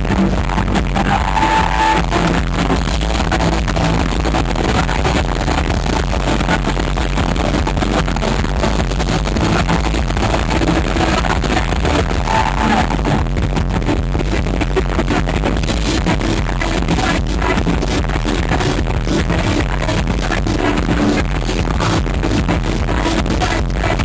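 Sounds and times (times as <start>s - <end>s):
live electronic music with heavy bass: 0.0s - 24.0s.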